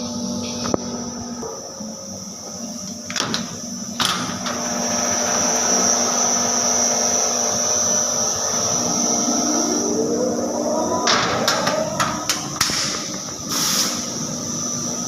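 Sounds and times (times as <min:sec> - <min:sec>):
shredding machine hum and whine: 0:00.0 - 0:15.0.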